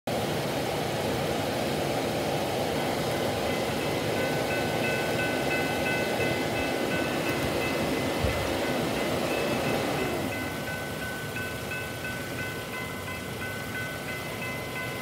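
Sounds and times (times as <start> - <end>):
rain: 0.1 - 15.0
wind: 0.1 - 15.0.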